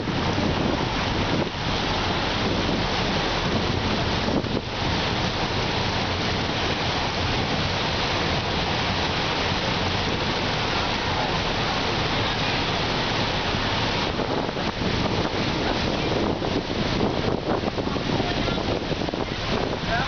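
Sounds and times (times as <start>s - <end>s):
floodwater rushing and splashing: 0.0s - 20.0s.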